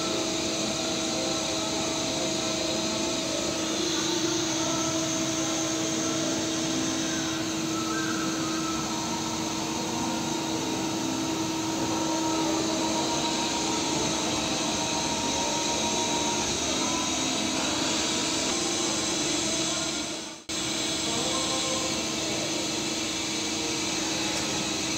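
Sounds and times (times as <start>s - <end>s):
lathe machine whirring: 0.0s - 24.9s.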